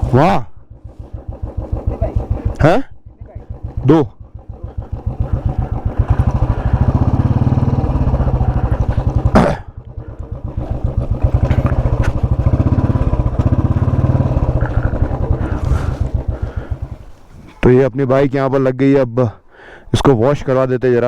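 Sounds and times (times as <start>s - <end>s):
motorcycle engine idling: 0.0s - 17.5s.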